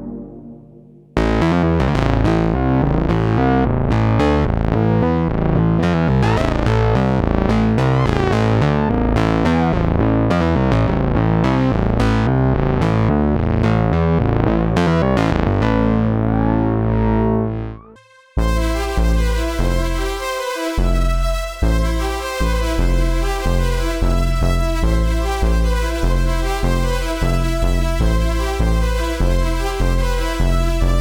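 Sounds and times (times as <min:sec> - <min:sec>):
held low synth note: 0:00.0 - 0:02.4, 0:03.3 - 0:11.0, 0:14.0 - 0:31.0
sequenced bass synthesizer pattern: 0:00.0 - 0:31.0.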